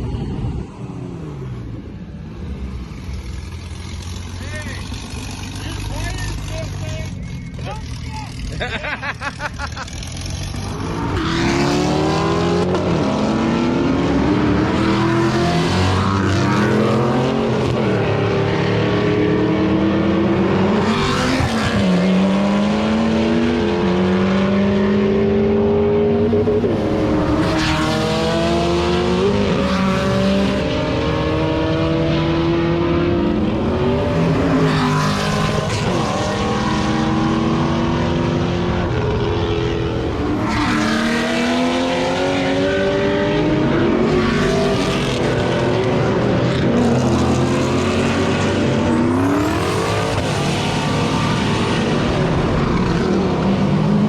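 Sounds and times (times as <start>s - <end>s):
car engine revving hard: 8.4s - 54.0s.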